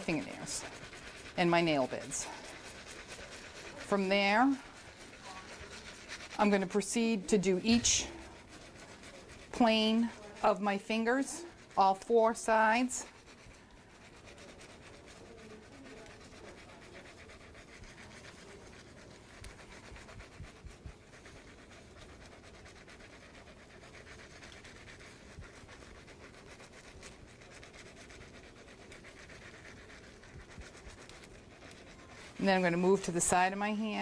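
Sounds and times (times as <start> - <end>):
scrub brush scratching wet skin: 0.0 - 34.0.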